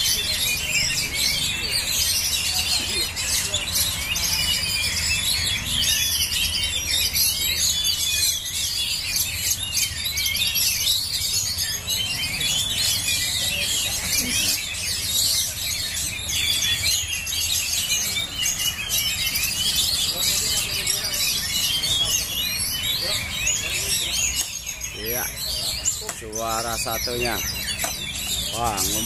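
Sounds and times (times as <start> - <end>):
many songbirds chirping and whistling: 0.0 - 29.0.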